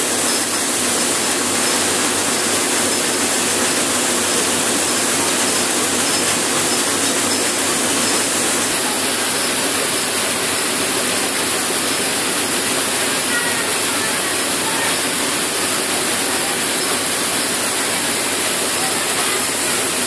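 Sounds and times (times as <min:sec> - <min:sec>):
machinery rushing noise: 0:00.0 - 0:20.0.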